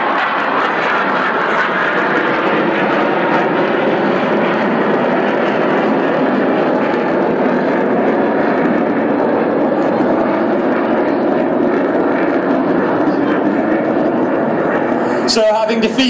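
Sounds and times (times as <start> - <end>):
jet engine rush: 0.0 - 16.0.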